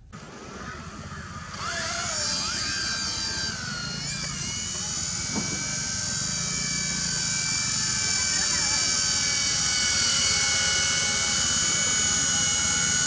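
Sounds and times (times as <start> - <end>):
rc helicopter motors whining: 0.0 - 13.0.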